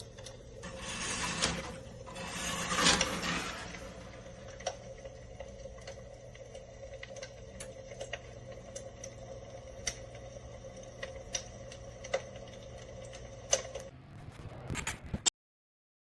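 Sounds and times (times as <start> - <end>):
electric fireplace crackling effect: 0.0 - 15.3.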